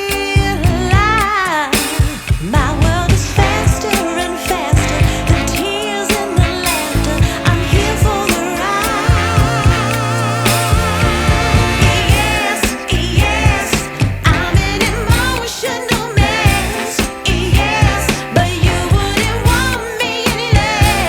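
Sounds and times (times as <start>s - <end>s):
pop soul music with singing: 0.0s - 21.0s.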